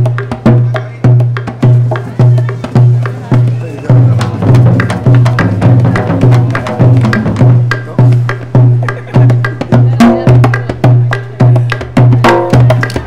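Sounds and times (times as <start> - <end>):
deep drum beat: 0.0 - 13.0
hand-played skin drum: 0.0 - 13.0.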